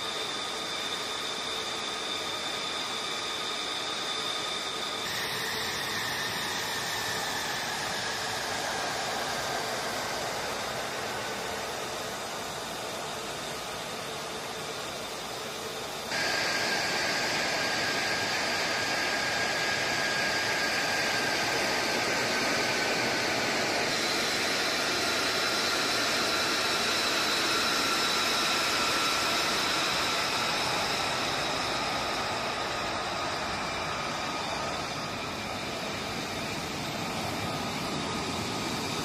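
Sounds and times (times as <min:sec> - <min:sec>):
jet engine roaring: 0:00.0 - 0:39.0
turbine whine: 0:00.0 - 0:39.0.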